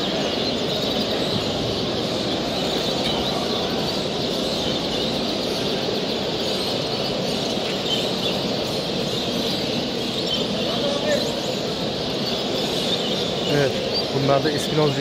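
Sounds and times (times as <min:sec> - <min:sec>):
canaries chirping and singing: 0:00.0 - 0:15.0.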